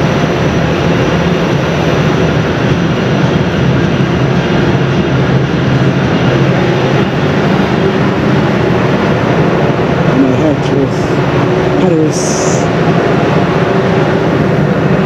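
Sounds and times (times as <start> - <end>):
ferry engine droning: 0.0 - 15.0
wind rushing over microphone: 0.0 - 15.0.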